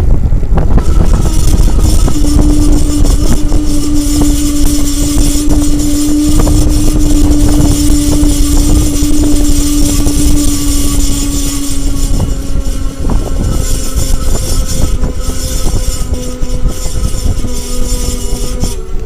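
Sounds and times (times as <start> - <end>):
low rumble: 0.0 - 19.0
high screech from electric motor: 0.5 - 19.0.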